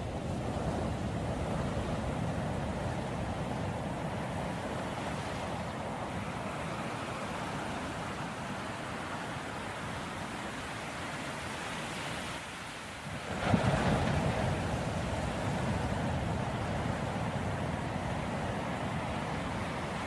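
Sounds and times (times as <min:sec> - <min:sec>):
ocean surf rushing: 0:00.0 - 0:20.0.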